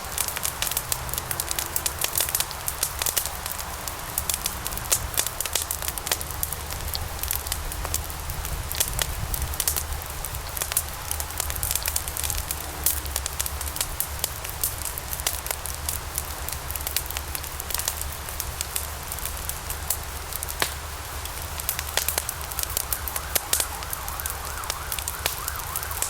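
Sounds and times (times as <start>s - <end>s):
log fire crackling and popping: 0.0s - 26.0s.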